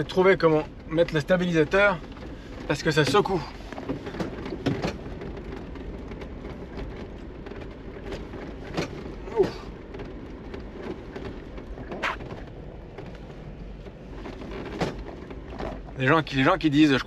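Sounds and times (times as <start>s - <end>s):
engine and tyre drone: 0.0s - 16.9s
car body knocks and rattles: 0.0s - 17.0s.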